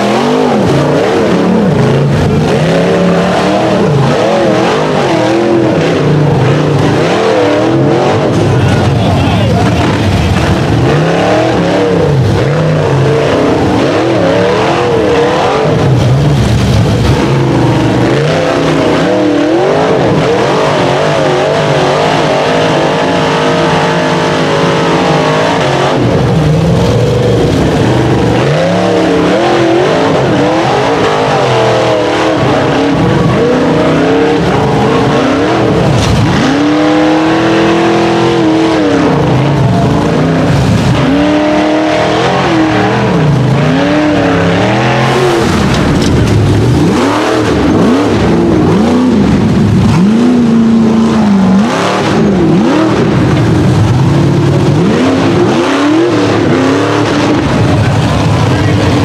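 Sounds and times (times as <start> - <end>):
buggy engines revving hard: 0.0 - 59.0.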